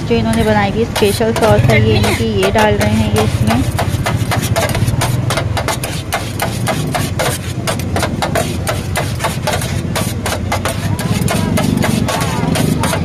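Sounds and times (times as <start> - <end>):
knife and spatula clacking on griddle: 0.2 - 13.0.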